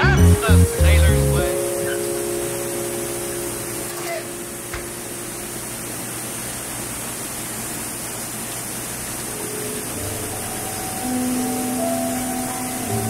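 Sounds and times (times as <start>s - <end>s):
faint music: 0.0s - 6.6s, 9.1s - 13.0s.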